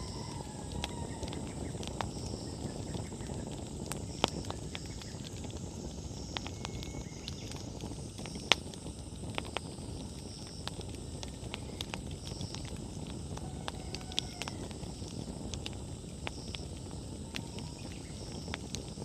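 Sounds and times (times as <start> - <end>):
firewood crackling and popping: 0.0 - 19.0
low rush of flame: 0.0 - 19.0.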